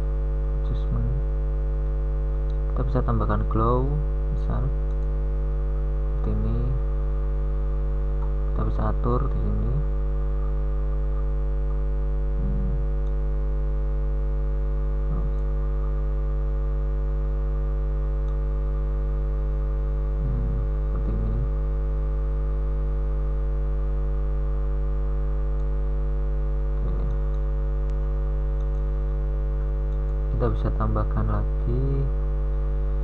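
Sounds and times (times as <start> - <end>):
electrical mains hum: 0.0 - 33.0
faint low sounds: 2.5 - 33.0.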